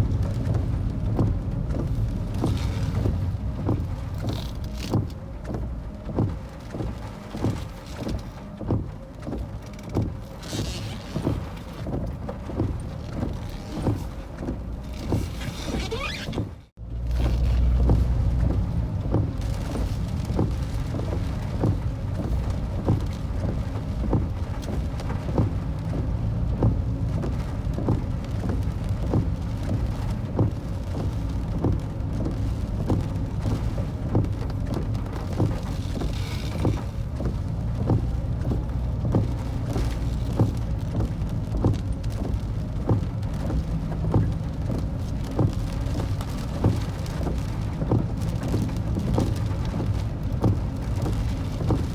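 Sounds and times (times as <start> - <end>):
rain ticking: 0.0 - 51.9.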